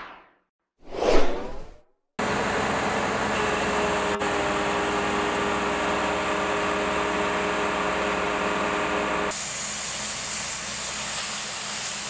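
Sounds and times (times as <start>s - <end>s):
crane engine running: 2.2s - 11.9s.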